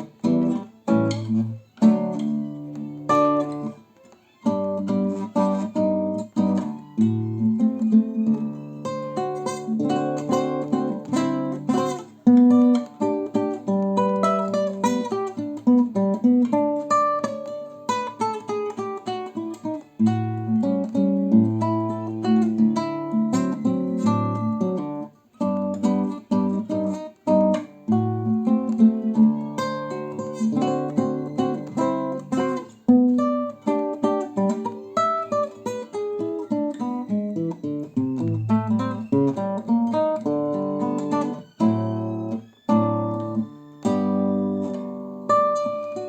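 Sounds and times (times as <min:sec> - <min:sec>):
solo acoustic guitar: 0:00.0 - 0:46.0.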